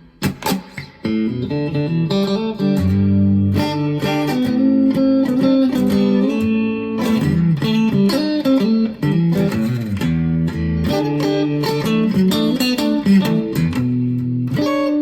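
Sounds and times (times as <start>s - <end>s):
electric guitar chords clean tone: 0.0s - 15.0s.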